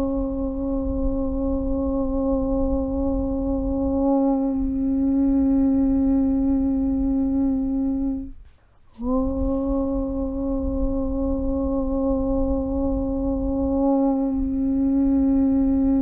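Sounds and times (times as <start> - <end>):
low voice chanting aum: 0.0 - 16.0.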